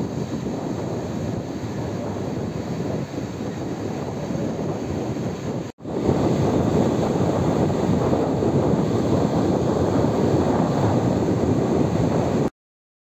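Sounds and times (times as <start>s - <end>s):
strong wind roaring: 0.0s - 12.5s
surf breaking on beach: 0.0s - 12.5s.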